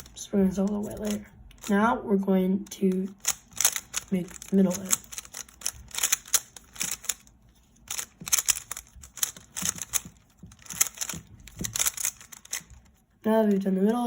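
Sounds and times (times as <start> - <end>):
puzzle cube layers clicking: 0.0 - 1.8, 2.6 - 7.3, 7.9 - 12.9.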